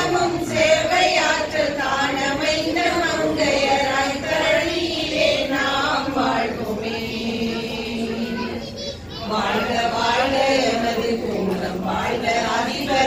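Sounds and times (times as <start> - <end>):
women singing in unison: 0.0 - 8.6, 9.2 - 13.0.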